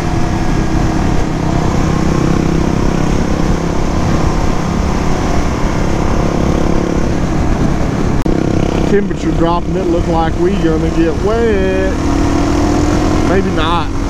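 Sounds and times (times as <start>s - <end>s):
motorcycle engine cruising: 0.0s - 14.0s
rushing wind noise: 0.0s - 14.0s.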